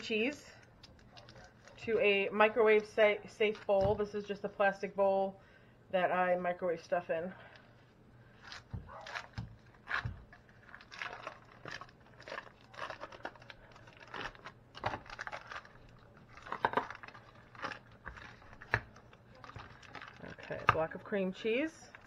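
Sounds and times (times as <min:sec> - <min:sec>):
foil wrapper crinkling: 0:00.0 - 0:04.3, 0:08.3 - 0:22.0.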